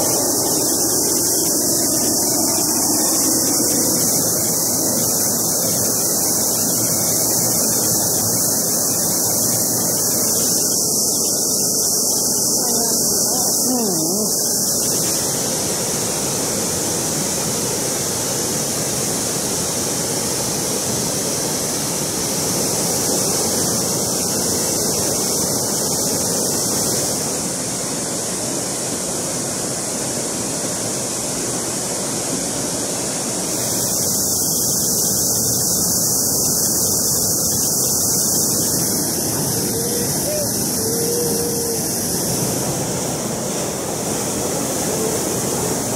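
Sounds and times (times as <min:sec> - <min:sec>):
waterfall rushing over rocks: 0:00.0 - 0:45.9.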